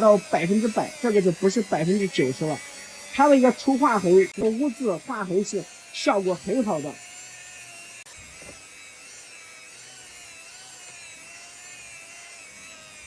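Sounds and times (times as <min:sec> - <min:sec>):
electric polisher motor whine: 0:00.0 - 0:13.0.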